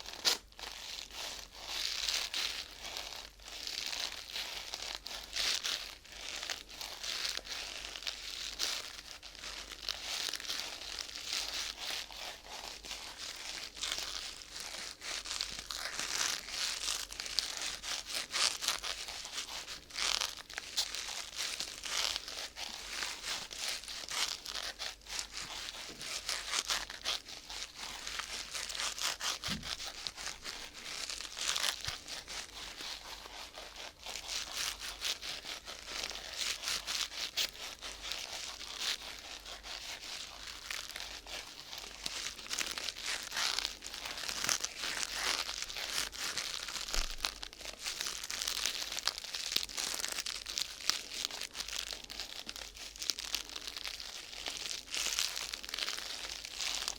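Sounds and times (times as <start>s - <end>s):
sheet material crinkling: 0.0s - 56.9s.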